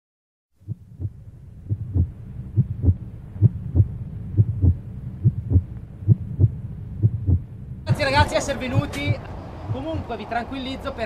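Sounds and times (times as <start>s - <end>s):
heartbeat thumps: 0.6s - 10.0s
steady low hum: 0.6s - 10.1s.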